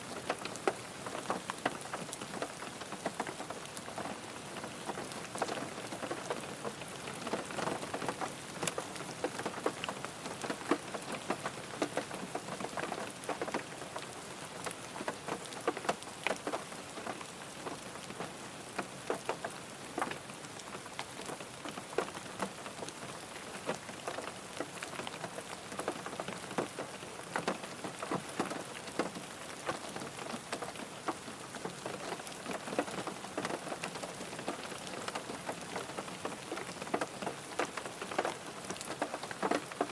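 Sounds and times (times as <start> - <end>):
rain drumming on a car: 0.0 - 39.9.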